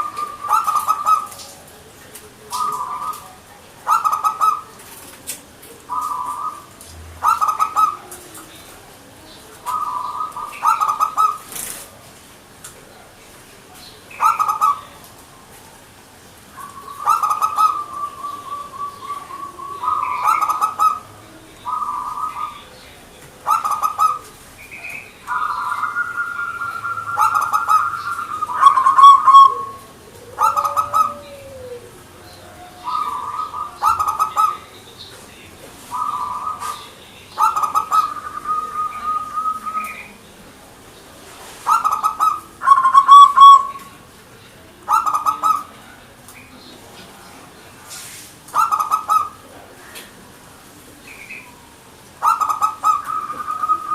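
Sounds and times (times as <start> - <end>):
dove cooing: 0.0 - 12.0, 14.1 - 15.1, 16.5 - 35.0, 35.9 - 40.2, 41.4 - 46.0, 48.5 - 50.0, 51.1 - 53.9.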